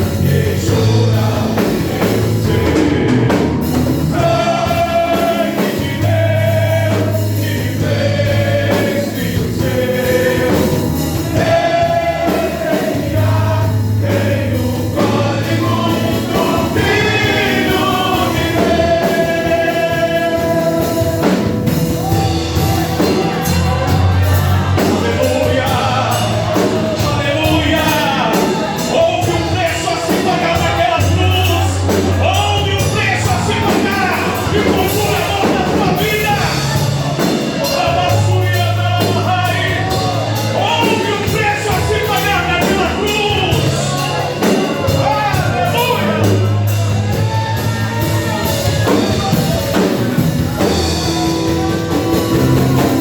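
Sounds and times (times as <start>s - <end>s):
band accompaniment with bass: 0.0s - 53.0s
men's choir singing gospel: 0.0s - 53.0s.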